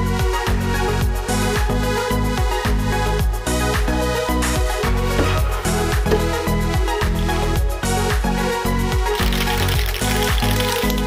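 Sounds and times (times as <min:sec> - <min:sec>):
electronic music with bass: 0:00.0 - 0:11.0.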